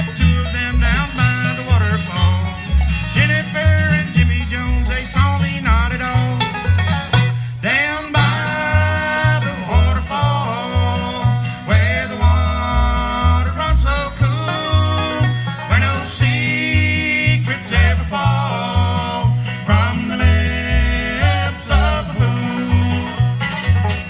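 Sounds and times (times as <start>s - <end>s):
bluegrass band playing: 0.0s - 24.0s.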